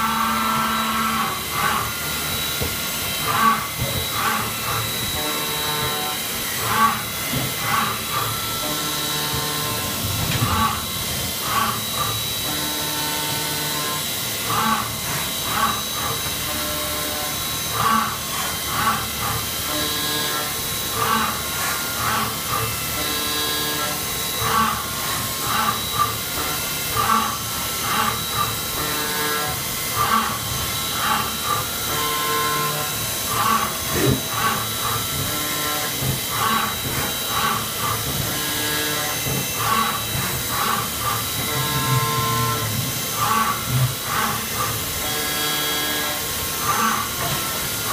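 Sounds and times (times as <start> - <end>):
milling machine whine: 0.0 - 47.9.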